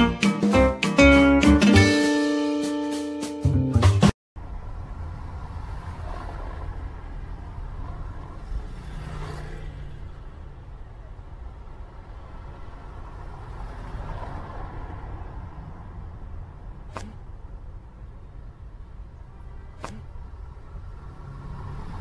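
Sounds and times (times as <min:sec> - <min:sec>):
vehicle engines and road noise: 0:04.4 - 0:22.0.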